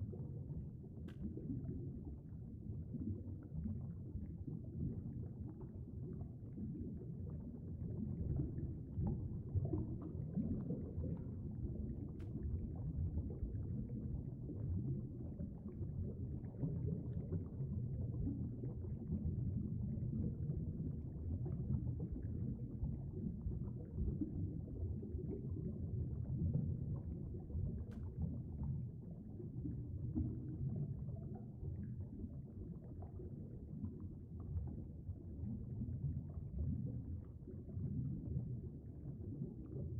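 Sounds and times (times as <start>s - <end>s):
muffled underwater stream rumble: 0.0s - 39.9s.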